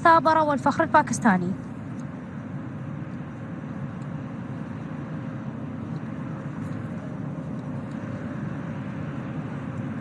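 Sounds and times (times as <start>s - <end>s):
jet engine noise: 0.0s - 10.0s.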